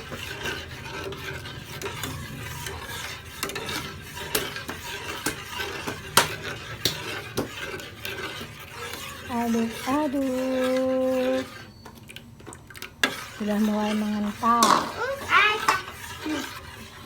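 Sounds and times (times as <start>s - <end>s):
utensil scraping a pot: 0.0s - 17.0s.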